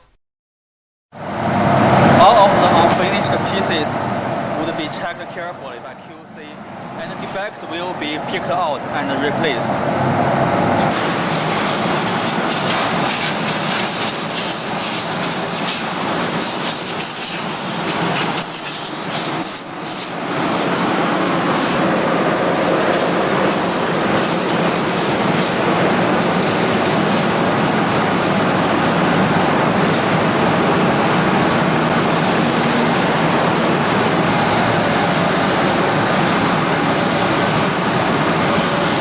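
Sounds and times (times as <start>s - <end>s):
woodworking machinery hiss and rumble: 1.2s - 9.7s, 10.8s - 39.0s.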